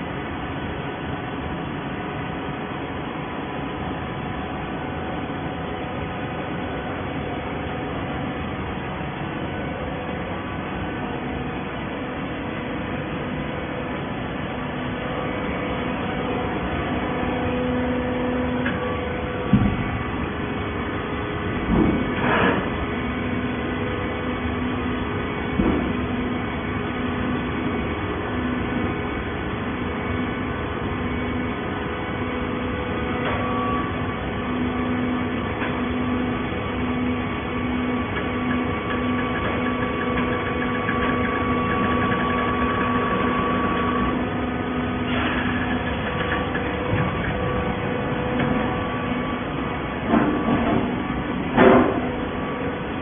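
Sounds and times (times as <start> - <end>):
baler mechanical hum: 0.0 - 53.0.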